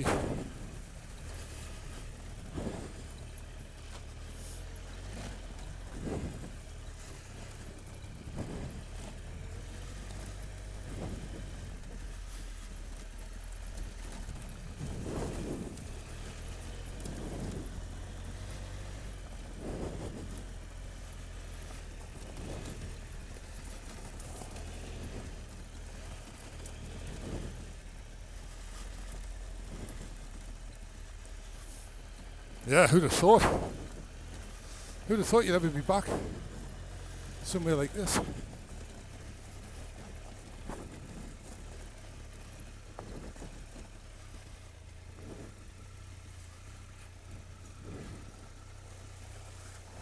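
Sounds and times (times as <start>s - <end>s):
motorcycle engine idling: 0.0s - 32.7s, 33.7s - 50.0s.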